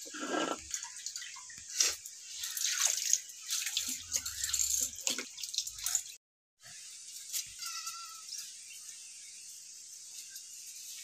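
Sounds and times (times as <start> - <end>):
water dripping and splashing: 0.5 - 11.0.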